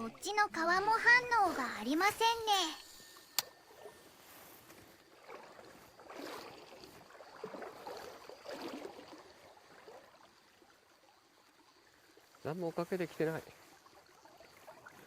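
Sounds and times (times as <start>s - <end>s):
stream water rushing and splashing: 0.0s - 15.0s.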